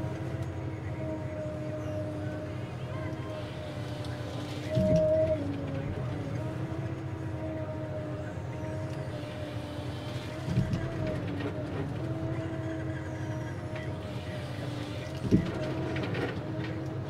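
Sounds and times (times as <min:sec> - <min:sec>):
engine and hydraulics hum: 0:00.0 - 0:17.0.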